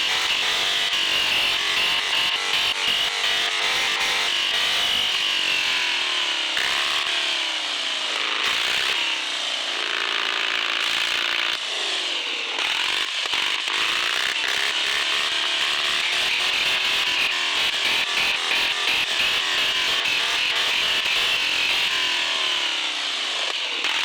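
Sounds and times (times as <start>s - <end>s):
toy truck electric motor whining: 0.0s - 24.0s.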